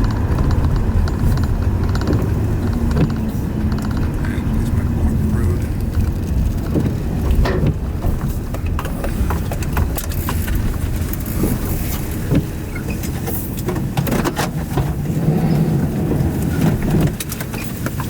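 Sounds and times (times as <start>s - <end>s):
storm wind buffeting vehicle: 0.0s - 18.0s.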